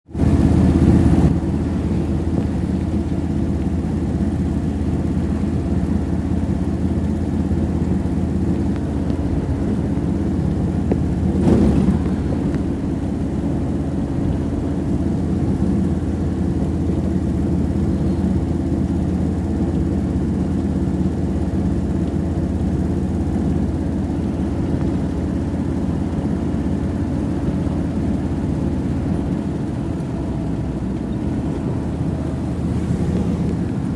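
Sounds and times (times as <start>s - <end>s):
road noise: 0.0s - 33.9s
vehicle engine hum: 0.0s - 33.9s.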